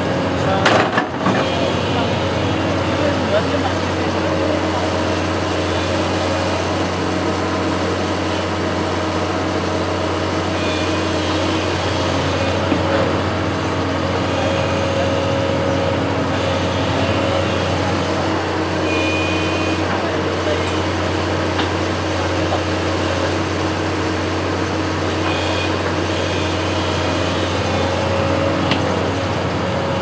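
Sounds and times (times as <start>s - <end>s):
construction machine engine running: 0.0s - 30.0s.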